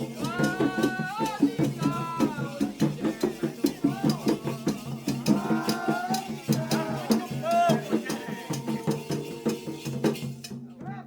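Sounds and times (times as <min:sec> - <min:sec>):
drums and percussion beating: 0:00.0 - 0:11.0
voices singing a chant: 0:00.0 - 0:11.0.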